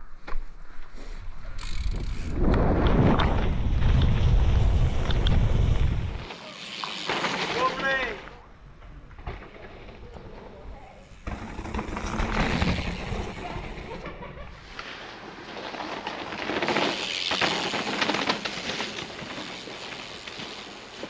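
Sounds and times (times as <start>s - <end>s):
bike tyres crunching over snow: 0.0s - 21.0s.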